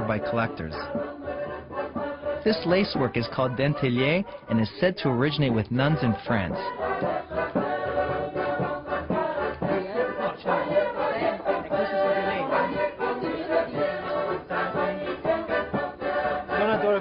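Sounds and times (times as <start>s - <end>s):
choir singing over music: 0.0s - 17.0s.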